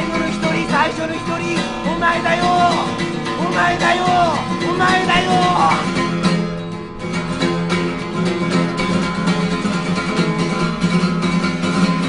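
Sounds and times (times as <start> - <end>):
plucked string instrument: 0.0 - 12.0.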